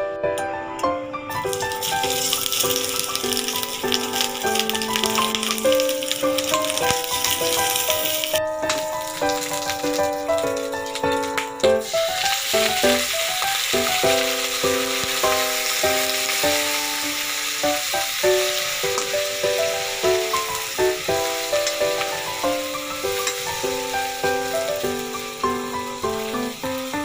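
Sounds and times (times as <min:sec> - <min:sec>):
simple melody background music: 0:00.0 - 0:27.0
food sizzling in a pan: 0:01.3 - 0:27.0.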